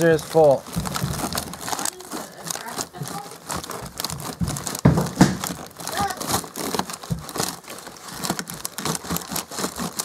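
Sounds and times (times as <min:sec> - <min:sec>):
frozen items knocking together: 0:00.0 - 0:10.0
plastic bags crinkling: 0:00.0 - 0:10.0.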